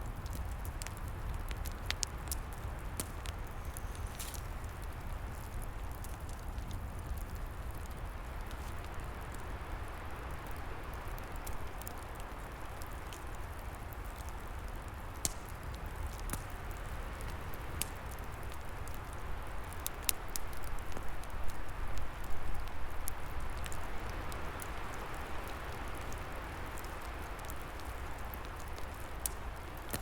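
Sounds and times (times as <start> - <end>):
low fire roar: 0.0 - 30.0
wood fire crackling and popping: 0.0 - 30.0.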